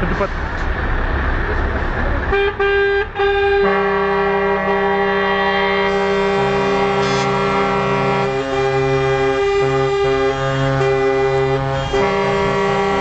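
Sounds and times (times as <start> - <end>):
truck air horns chord: 2.3 - 13.0.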